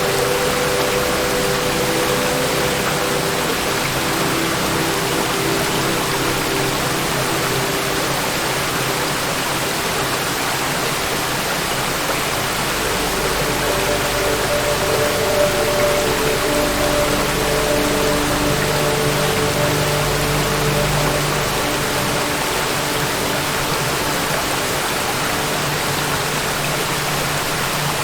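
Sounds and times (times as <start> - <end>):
waterfall roaring: 0.0 - 28.0.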